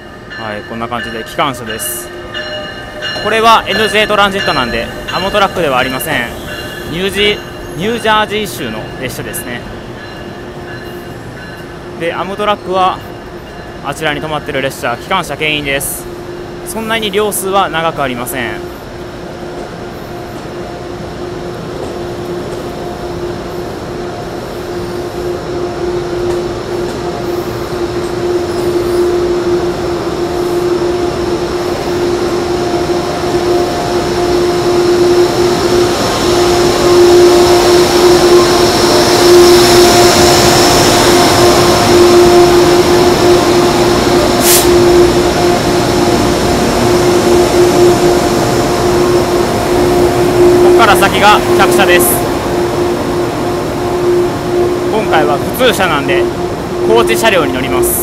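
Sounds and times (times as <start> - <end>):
locomotive humming drone: 0.0 - 58.0.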